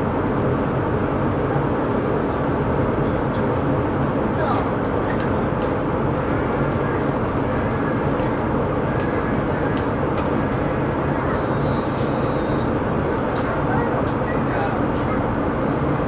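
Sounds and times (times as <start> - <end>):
train cabin running noise: 0.0 - 16.0.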